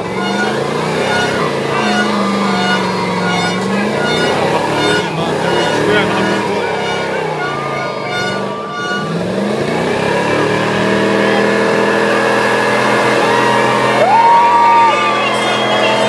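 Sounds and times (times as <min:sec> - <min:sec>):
truck engine revving high: 0:00.0 - 0:16.0.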